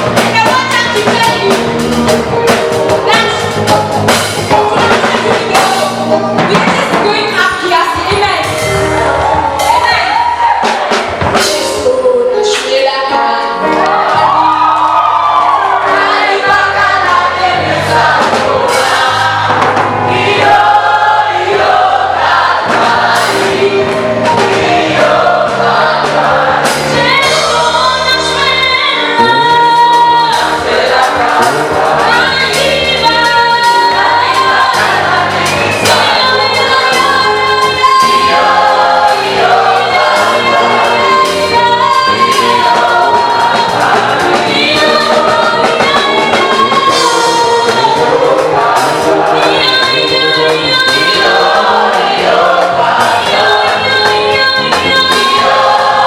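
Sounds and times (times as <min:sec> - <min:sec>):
band with bass and beat: 0:00.0 - 0:56.0
choir singing gospel: 0:00.0 - 0:56.0.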